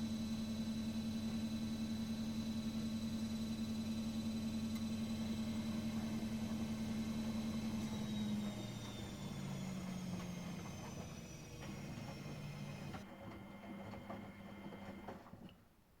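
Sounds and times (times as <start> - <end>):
washing machine motor hum: 0.0 - 15.6.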